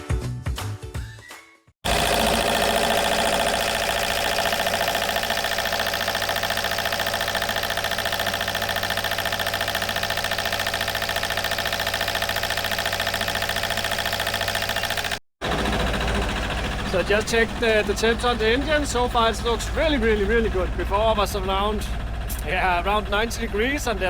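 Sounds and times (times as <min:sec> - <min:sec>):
marine diesel engine running: 0:01.9 - 0:24.0.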